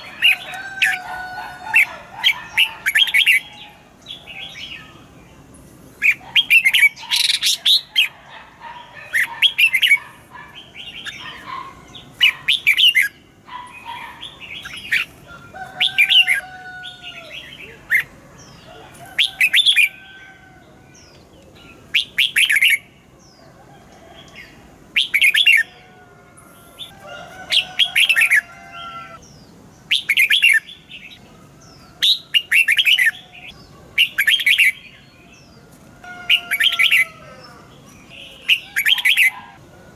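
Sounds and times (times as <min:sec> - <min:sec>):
bird chirping phrases: 0:00.0 - 0:15.2, 0:15.8 - 0:23.6, 0:24.2 - 0:39.6.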